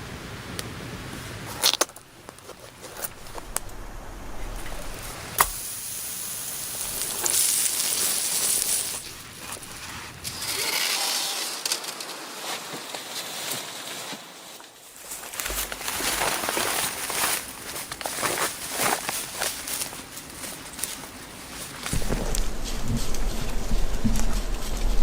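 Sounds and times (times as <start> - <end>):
rustling: 1.1 - 25.0.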